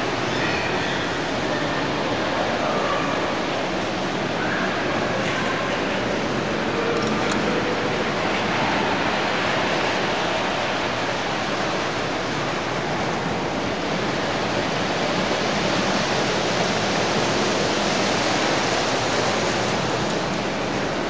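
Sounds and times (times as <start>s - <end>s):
model trains running on track: 0.0s - 21.0s.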